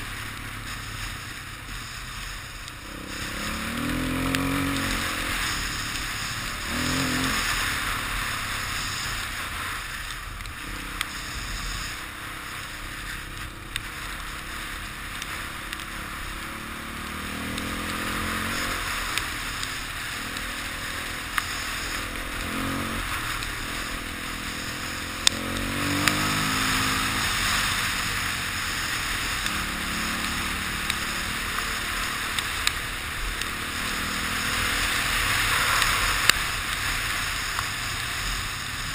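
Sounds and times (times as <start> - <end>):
dirt bike engine revving: 0.0 - 9.9, 10.6 - 38.9.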